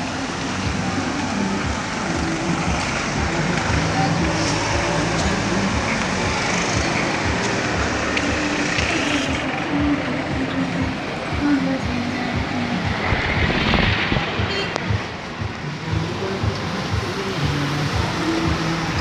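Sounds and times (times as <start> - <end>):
street traffic with engines humming: 0.0 - 19.0.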